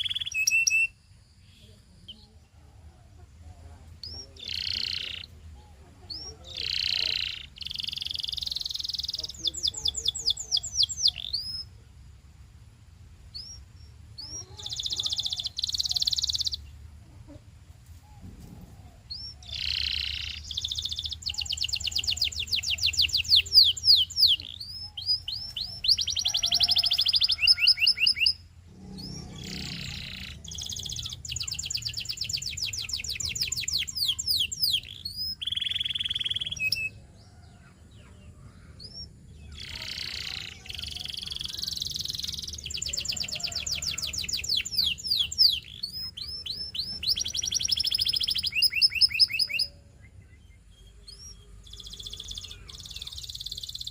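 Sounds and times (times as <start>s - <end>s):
canary singing trills: 0.0s - 12.0s, 13.2s - 53.9s
faint low hum: 0.0s - 48.4s.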